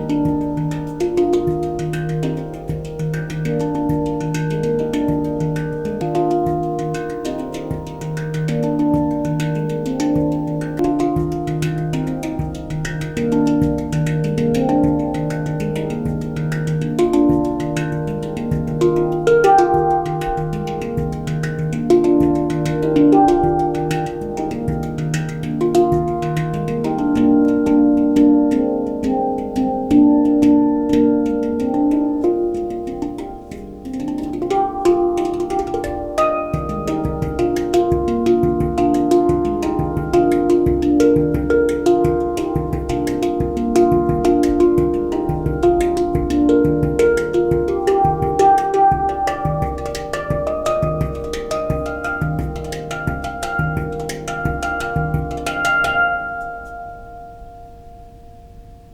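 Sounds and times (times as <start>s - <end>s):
handpan notes: 0.0s - 58.9s.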